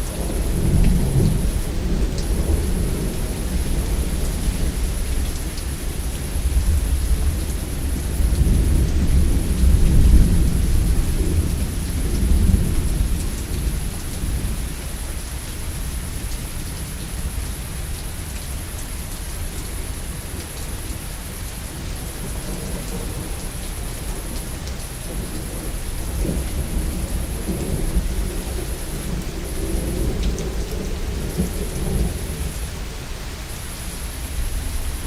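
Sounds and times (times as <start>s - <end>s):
thunder rumbling: 0.0s - 15.0s, 21.3s - 35.0s
heavy rain: 0.0s - 35.0s.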